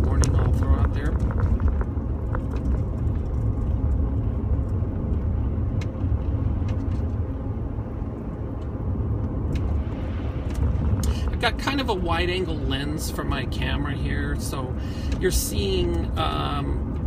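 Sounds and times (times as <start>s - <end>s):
car engine rumble: 0.0s - 17.0s.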